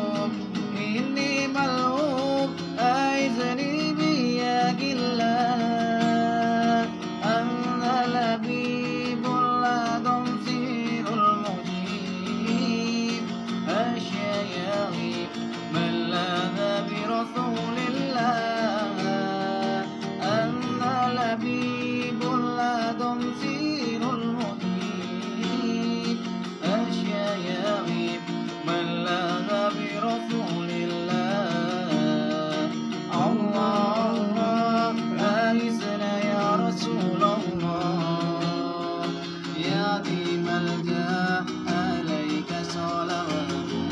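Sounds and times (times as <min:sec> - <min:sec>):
acoustic guitar strumming: 0:00.0 - 0:43.9
man singing: 0:00.0 - 0:43.9.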